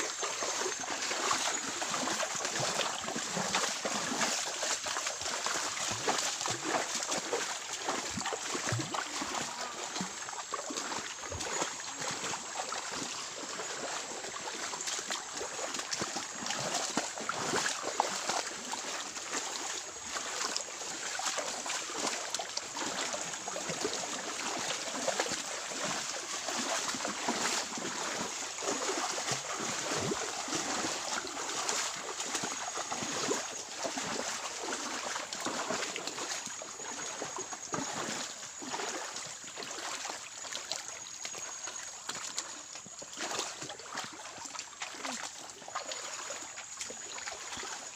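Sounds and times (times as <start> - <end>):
stream flowing: 0.0 - 47.9
water splashing from wading: 0.0 - 47.9.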